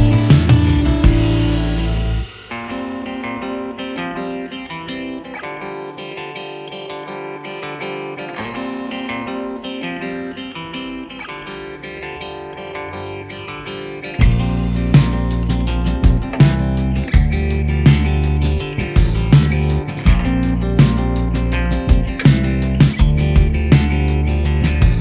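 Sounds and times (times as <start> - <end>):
plucked guitar melody: 0.0 - 25.0.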